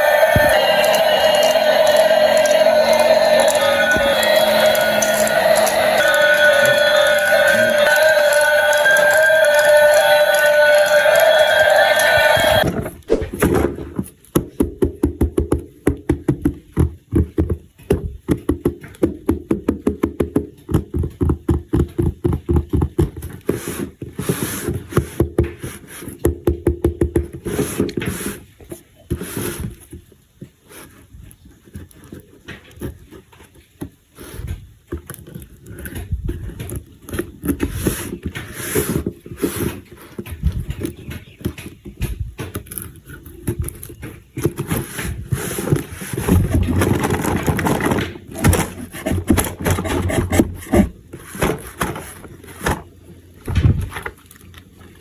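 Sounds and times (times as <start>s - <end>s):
taps and scrapes: 0.0s - 53.0s.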